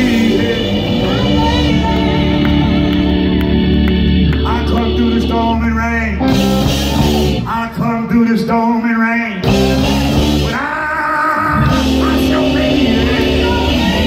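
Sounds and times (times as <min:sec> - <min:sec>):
voices singing long notes: 0:00.0 - 0:07.8, 0:09.3 - 0:14.0
gospel blues band: 0:00.0 - 0:14.0.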